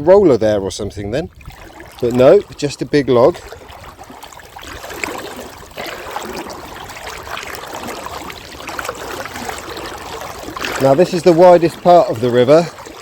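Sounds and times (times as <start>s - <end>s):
river water splashing around legs: 1.2s - 13.0s.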